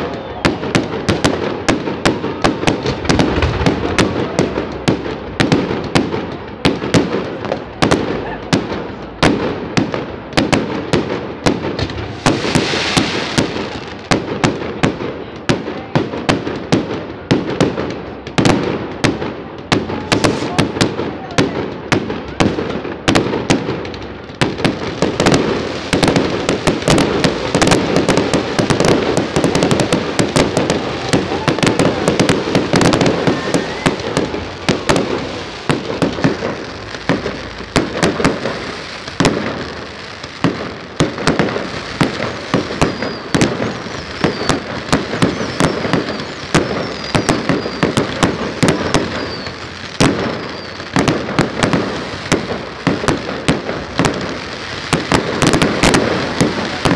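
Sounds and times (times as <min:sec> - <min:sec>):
fireworks whistling: 0:00.0 - 0:15.4, 0:19.9 - 0:56.9
fireworks bursting: 0:00.0 - 0:56.9
fireworks crackling: 0:00.0 - 0:56.9.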